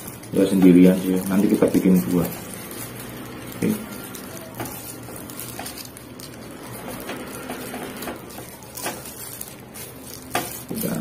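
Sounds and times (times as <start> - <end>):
gloved hands rustling: 0.0 - 11.0.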